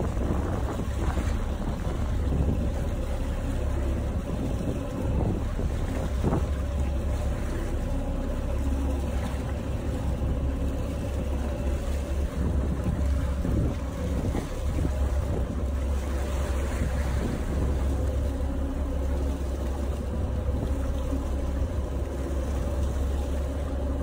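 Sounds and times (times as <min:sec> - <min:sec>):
low rumble: 0:00.0 - 0:24.0
sea water rushing: 0:00.0 - 0:24.0
wind buffeting microphone: 0:00.0 - 0:24.0.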